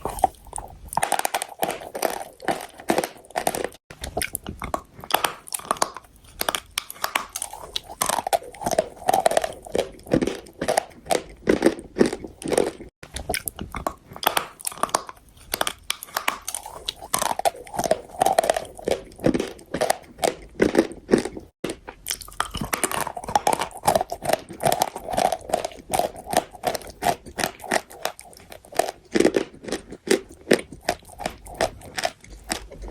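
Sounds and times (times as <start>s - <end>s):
person chewing chalk crunches: 0.0s - 32.9s.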